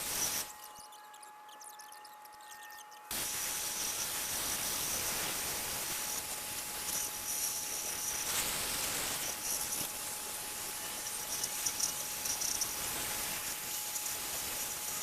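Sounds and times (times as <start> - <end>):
nozzle spraying hiss: 0.0 - 0.5, 3.1 - 15.0
faint insect chirps: 0.0 - 15.0.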